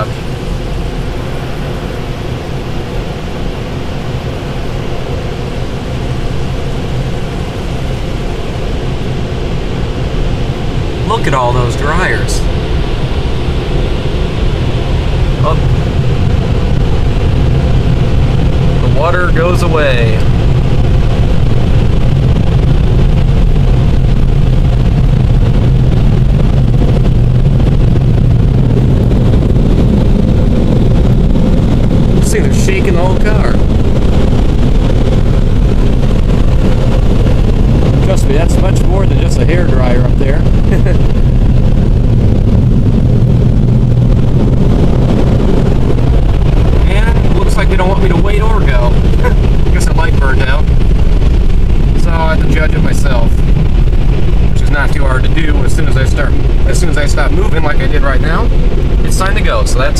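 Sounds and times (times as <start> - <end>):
car wash air dryers blowing: 0.0 - 59.9
strong low hum: 0.0 - 59.9.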